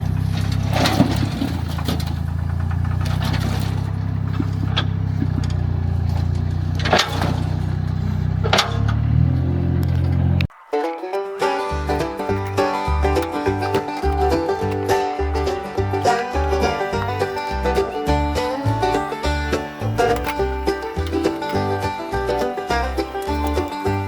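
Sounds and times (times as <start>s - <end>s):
sharp knocks or clunks: 0.0s - 10.4s, 11.5s - 24.0s
engine running steadily: 0.0s - 10.5s, 11.6s - 24.0s.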